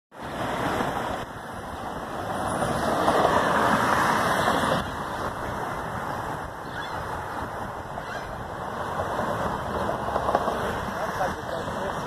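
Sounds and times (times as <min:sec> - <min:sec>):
vehicle passing on street: 0:00.1 - 0:12.0.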